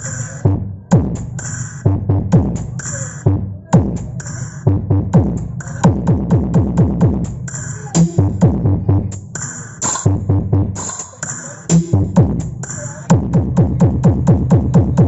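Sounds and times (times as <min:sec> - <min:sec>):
electronic dance music: 0:00.0 - 0:15.0
deep bass kicks: 0:00.4 - 0:10.9, 0:11.7 - 0:15.0.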